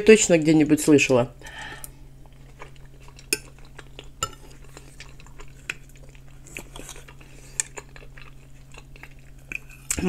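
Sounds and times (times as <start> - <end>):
soft chewing: 1.7 - 10.0.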